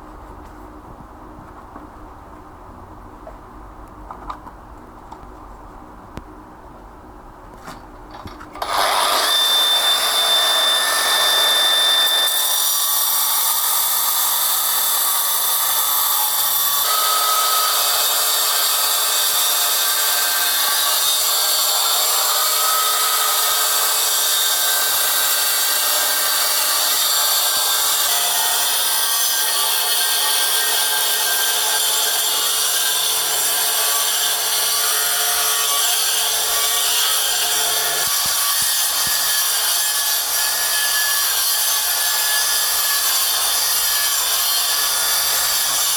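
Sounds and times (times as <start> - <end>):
power tool grinding stone: 8.2 - 45.9.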